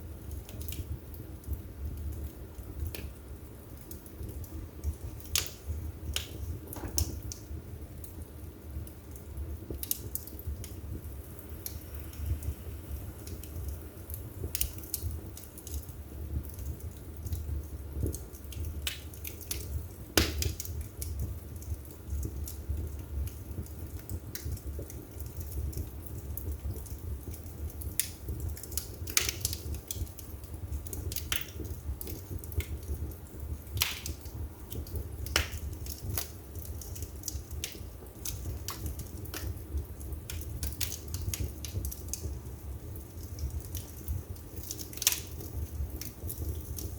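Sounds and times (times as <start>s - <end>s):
firewood crackling: 0.0s - 46.9s
sharp pops and snaps: 0.3s - 8.2s, 8.8s - 42.4s, 43.0s - 46.9s.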